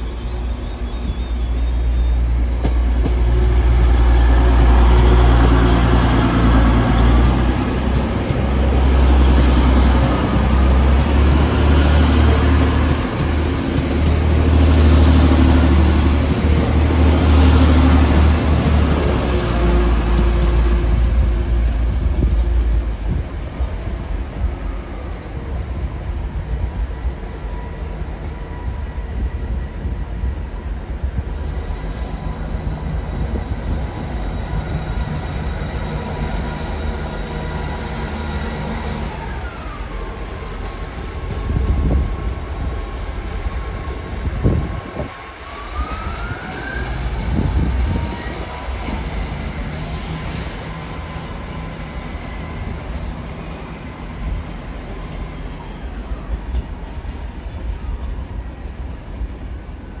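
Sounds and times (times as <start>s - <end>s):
diesel train engine drone: 0.0s - 60.0s
passing train rumble: 0.0s - 60.0s.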